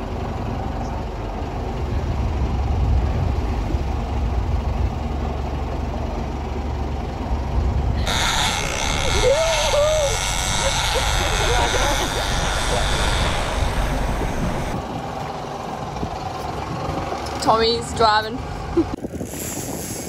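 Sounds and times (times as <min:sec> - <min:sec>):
boat engine rumble: 0:00.0 - 0:20.0.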